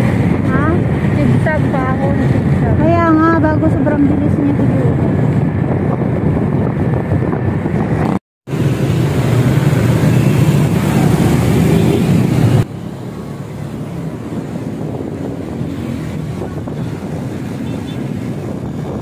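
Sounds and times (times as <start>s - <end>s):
road traffic engine noise: 0.0s - 19.0s
wind rushing over microphone: 0.0s - 19.0s.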